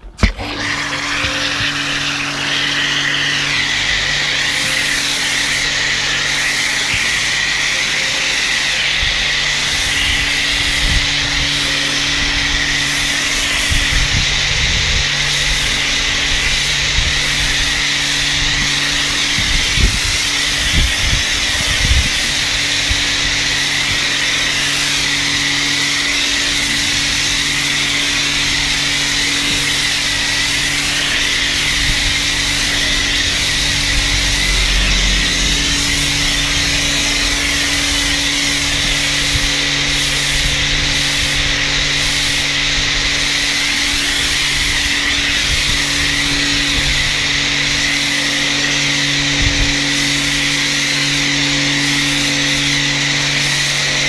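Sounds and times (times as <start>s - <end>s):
pressure washer humming: 0.0s - 54.0s.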